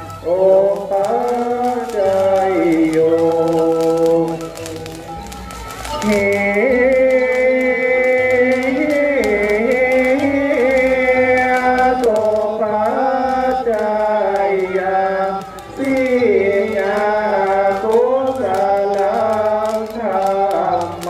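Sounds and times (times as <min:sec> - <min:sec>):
faint crackles: 0:00.0 - 0:21.0
wavering chant-like melody: 0:00.0 - 0:21.0.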